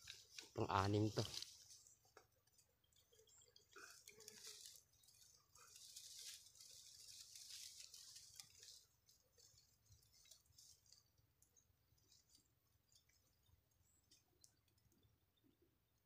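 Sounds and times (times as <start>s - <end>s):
soft ticks and rustles: 0.0s - 15.8s.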